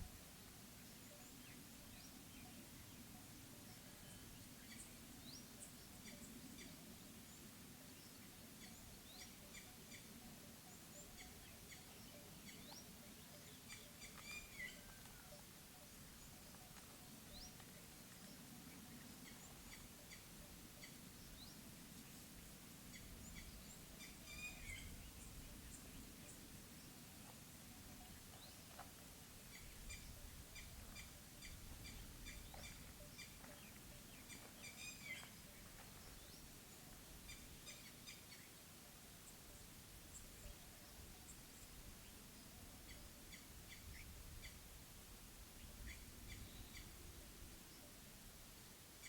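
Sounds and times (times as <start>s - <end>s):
low steady background: 0.0s - 49.0s
small birds chirping: 0.8s - 44.7s.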